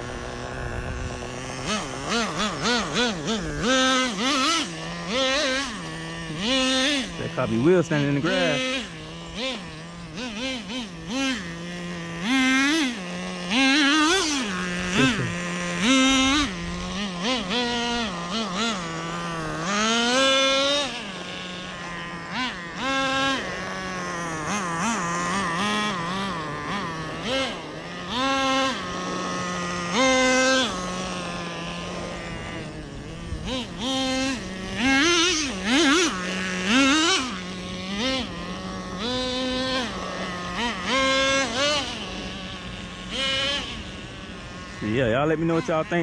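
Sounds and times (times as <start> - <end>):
nitro engine buzzing and revving: 0.0 - 46.0.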